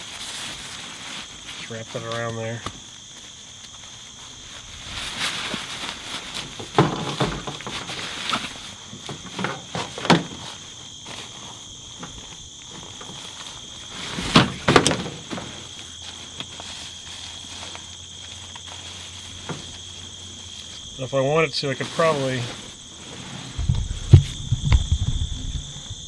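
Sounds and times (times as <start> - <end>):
insect chirring: 0.0 - 26.0
tarp rustling: 0.0 - 26.0.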